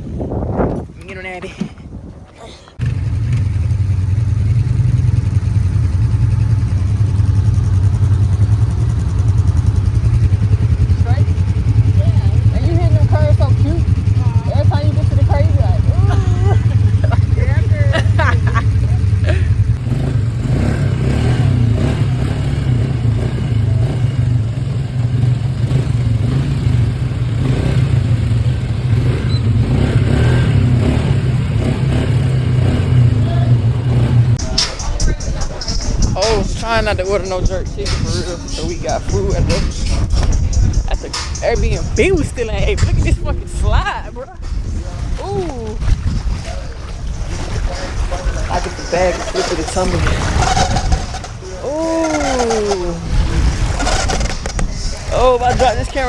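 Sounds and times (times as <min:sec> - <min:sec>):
atv engine rumbling: 0:00.0 - 0:56.0.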